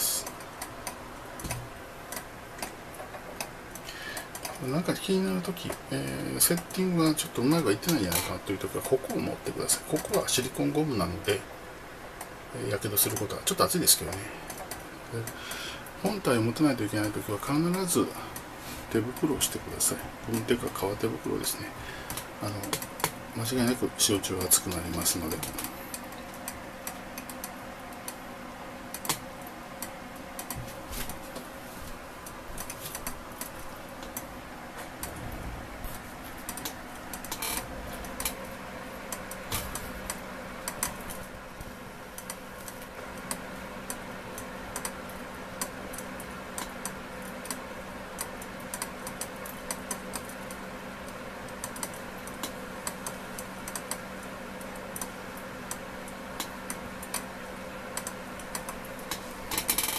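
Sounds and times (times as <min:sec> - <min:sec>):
small irregular ticks: 0:00.0 - 0:11.5, 0:12.1 - 0:28.3, 0:28.9 - 0:35.2, 0:35.9 - 0:59.9
steam distiller humming: 0:00.0 - 0:59.9.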